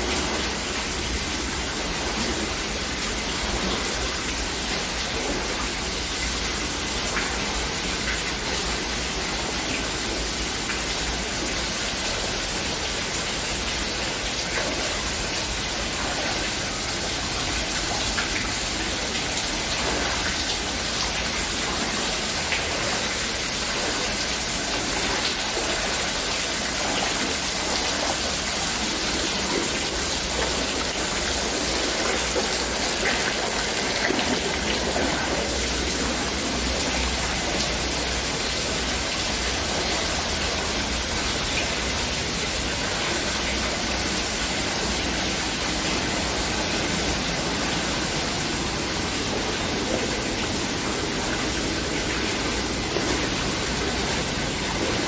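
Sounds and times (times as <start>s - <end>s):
stream rushing through gorge: 0.0s - 55.0s.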